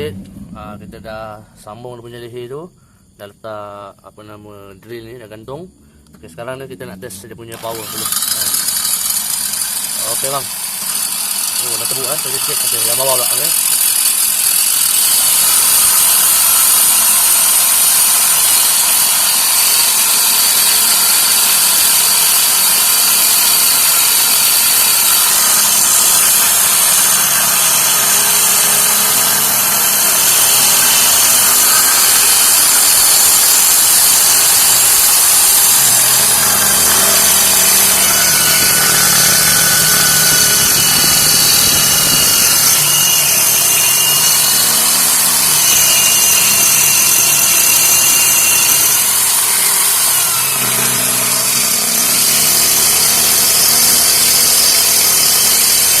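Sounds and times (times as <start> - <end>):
electric drill boring into steel: 7.5 - 56.0.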